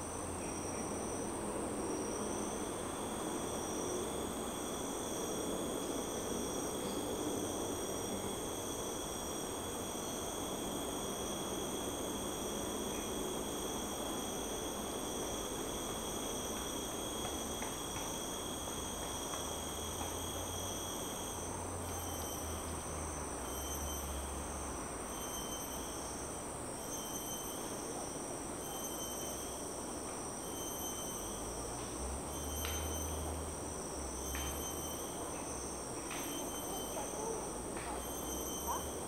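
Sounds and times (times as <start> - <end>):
insects buzzing high-pitched: 0.0 - 39.0
pulsing insect call: 0.0 - 39.0.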